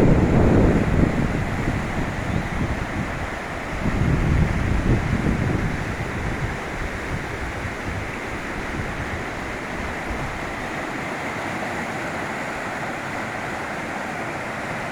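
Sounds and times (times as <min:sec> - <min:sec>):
wind buffeting microphone: 0:00.0 - 0:13.8
waterfall rushing: 0:00.0 - 0:14.9.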